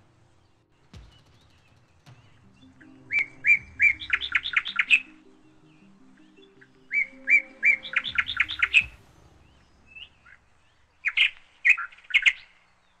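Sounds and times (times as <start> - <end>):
small bird chirping: 1.0 - 13.0.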